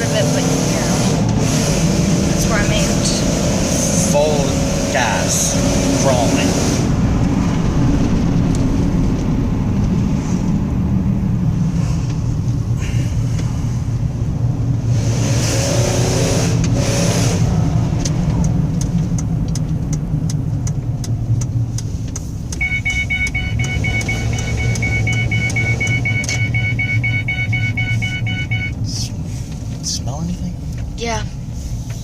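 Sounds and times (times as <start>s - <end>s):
car engine droning: 0.0s - 32.0s.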